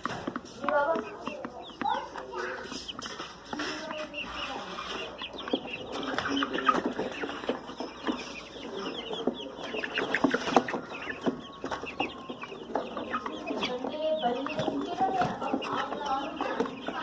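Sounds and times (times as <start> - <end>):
hen clucking: 0.0 - 17.0.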